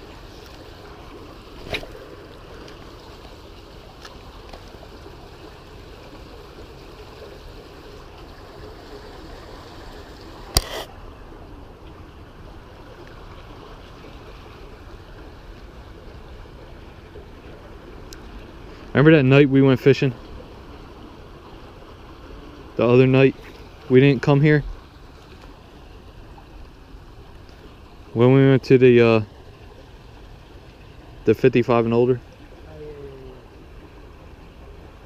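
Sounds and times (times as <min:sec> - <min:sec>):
outdoor hiss with trickling water: 0:00.0 - 0:35.0.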